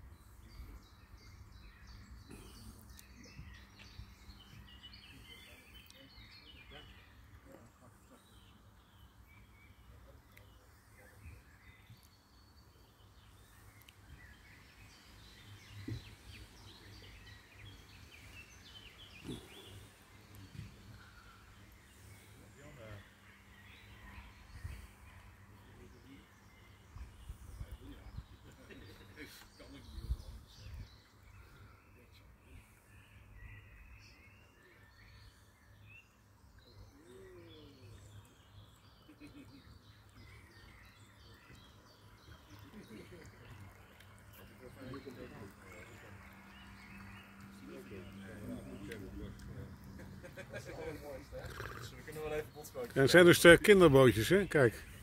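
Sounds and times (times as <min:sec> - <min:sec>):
faint outdoor background noise: 0:00.0 - 0:55.0
small birds chirping: 0:00.0 - 0:55.0.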